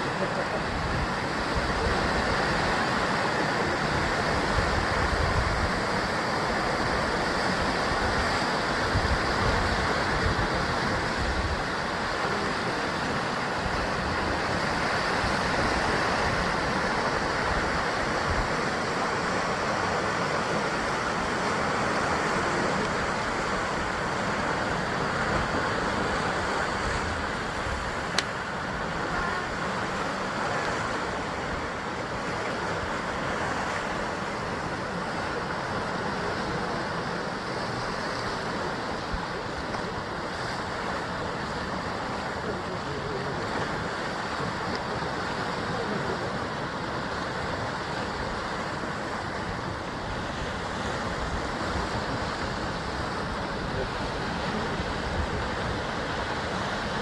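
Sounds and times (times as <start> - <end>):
surf washing against rocks: 0.0 - 57.0.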